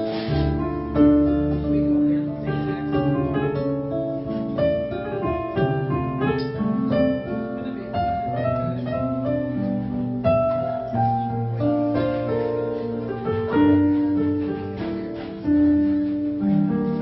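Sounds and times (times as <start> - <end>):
acoustic guitar: 0.0 - 17.0
electronic keyboard piano: 0.0 - 17.0.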